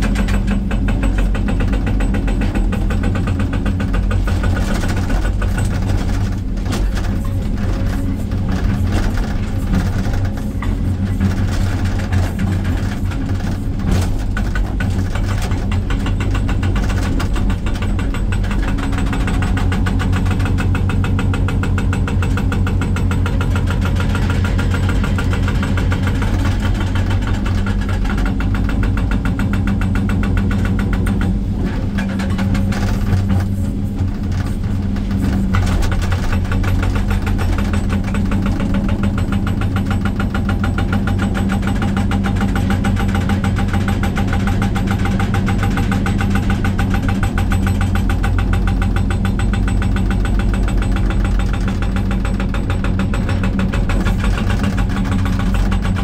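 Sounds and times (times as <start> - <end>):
diesel engine running: 0.0 - 56.0
hydraulic breaker pounding rock: 0.0 - 56.0.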